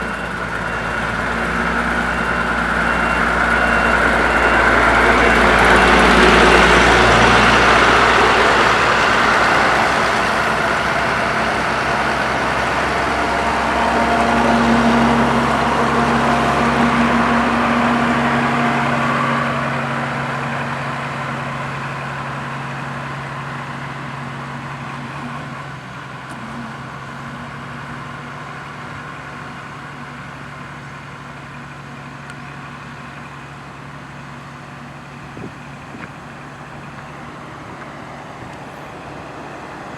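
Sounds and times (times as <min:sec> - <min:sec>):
road roller diesel engine rumbling: 0:00.0 - 0:39.9.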